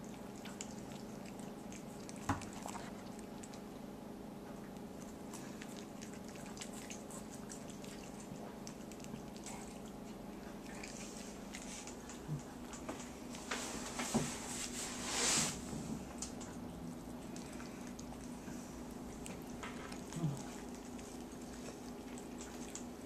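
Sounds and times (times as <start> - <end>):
cat eating wet clicks: 0.0 - 3.9, 4.5 - 13.4, 16.0 - 23.0
steady hum: 0.0 - 23.0.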